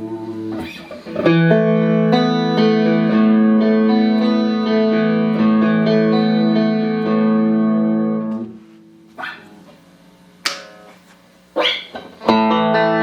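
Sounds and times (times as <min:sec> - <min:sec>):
clean electric guitar with chorus: 0:00.0 - 0:09.7, 0:11.9 - 0:13.0.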